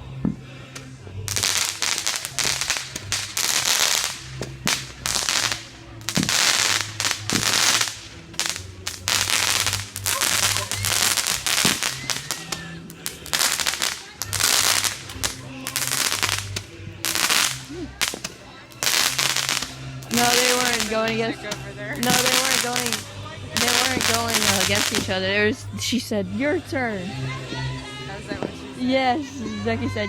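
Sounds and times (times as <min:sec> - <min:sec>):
firecracker pops and crackles: 0:00.8 - 0:25.2.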